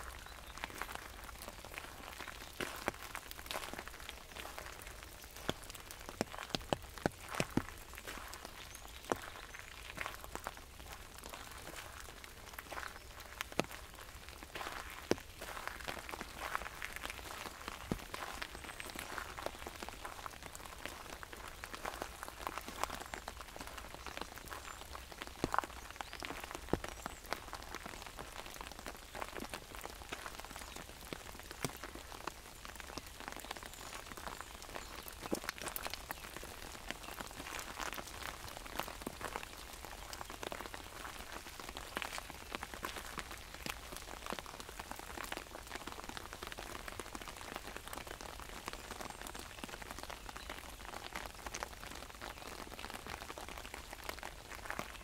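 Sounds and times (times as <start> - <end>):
raindrops tapping on umbrella: 0.0 - 55.0.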